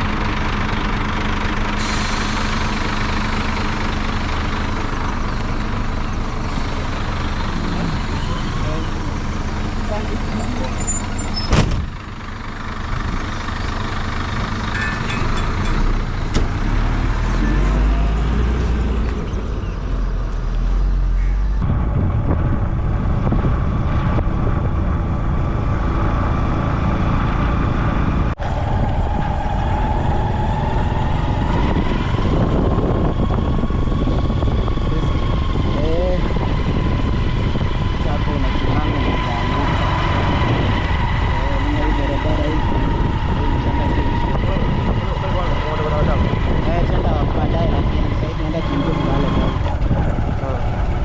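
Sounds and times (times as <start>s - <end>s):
vehicle engine and road rumble: 0.0s - 51.0s.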